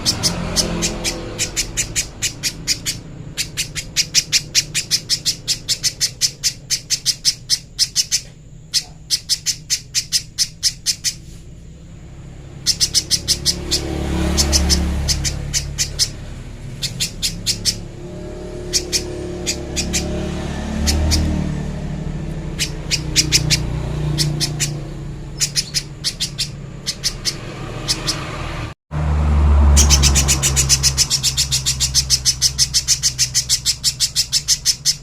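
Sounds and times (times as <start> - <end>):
bird calling sharp notes: 0.0 - 11.4, 12.4 - 28.7, 29.6 - 35.0.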